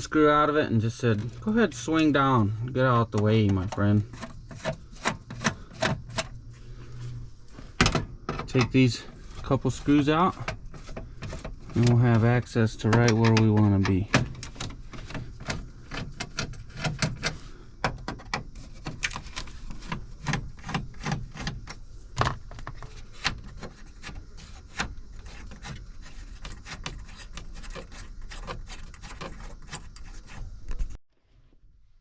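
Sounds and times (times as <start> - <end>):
hand tools clicking and scraping: 0.0 - 31.0.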